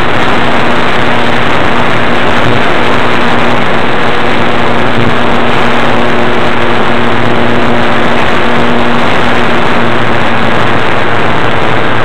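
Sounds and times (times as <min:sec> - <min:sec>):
motor hum: 0:00.0 - 0:12.0
propeller and wind rush: 0:00.0 - 0:12.0.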